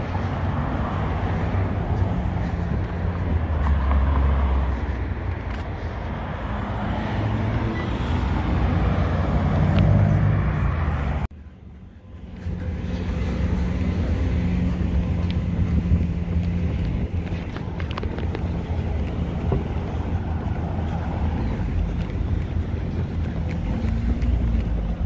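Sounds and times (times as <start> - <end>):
cars driving through traffic: 0.0 - 25.0.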